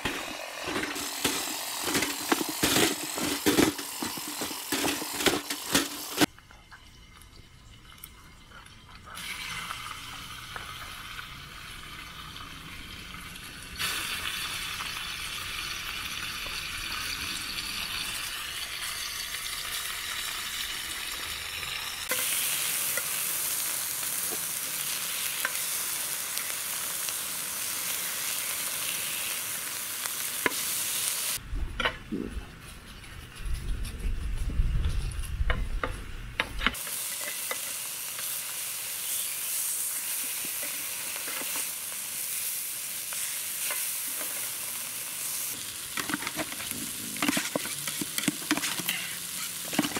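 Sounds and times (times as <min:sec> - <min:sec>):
pork sizzling in grill pan: 0:00.0 - 0:06.3, 0:09.1 - 0:31.4, 0:36.7 - 0:49.9.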